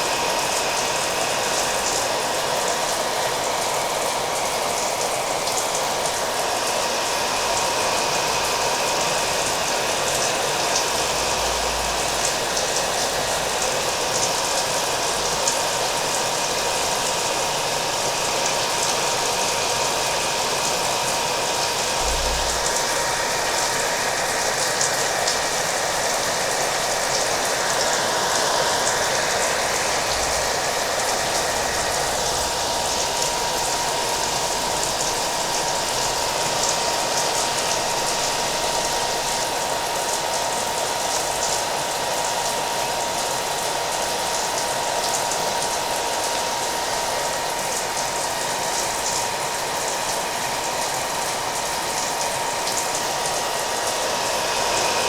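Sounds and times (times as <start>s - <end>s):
hair dryer whine: 0.0s - 55.0s.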